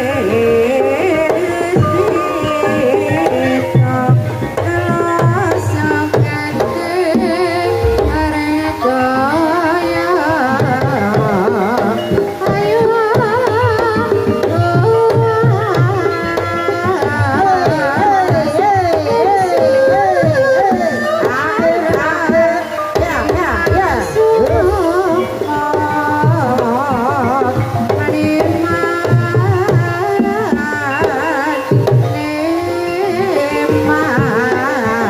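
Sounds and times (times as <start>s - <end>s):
hand drums beating: 0.0s - 35.0s
person singing wavering melody: 0.0s - 35.0s
sustained metallophone notes: 0.0s - 35.0s.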